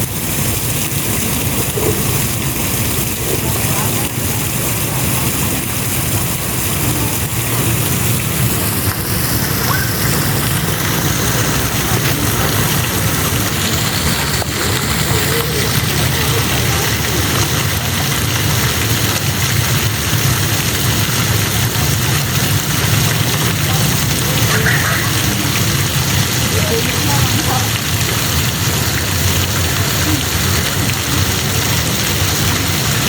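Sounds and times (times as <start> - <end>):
water falling and pattering: 0.0 - 33.0.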